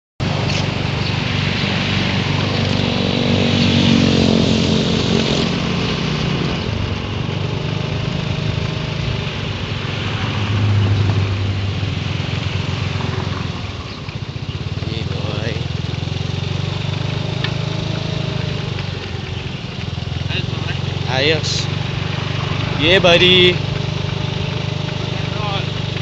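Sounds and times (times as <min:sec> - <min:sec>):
small engine running: 0:00.2 - 0:26.0.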